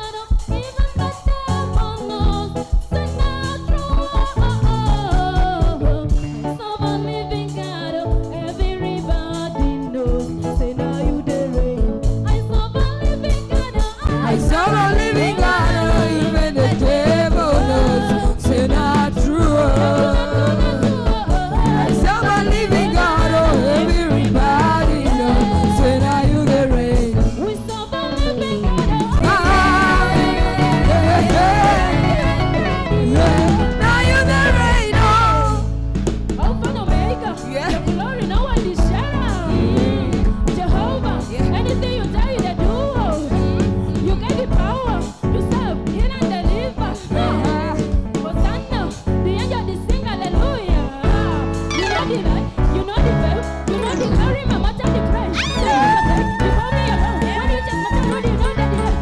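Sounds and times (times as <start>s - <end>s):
gospel singing over a band: 0.0s - 59.0s.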